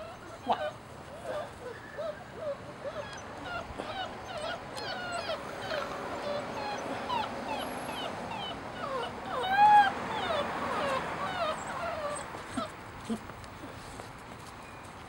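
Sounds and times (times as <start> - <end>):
puppies whimpering and squealing: 0.0 - 13.3.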